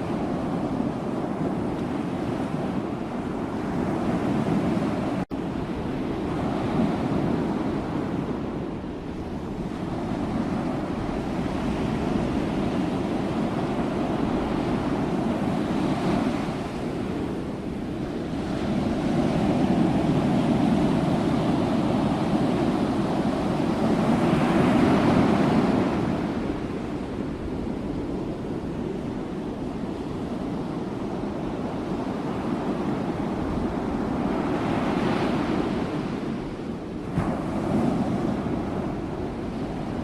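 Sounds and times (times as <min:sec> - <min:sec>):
ocean waves surf: 0:00.0 - 0:40.0.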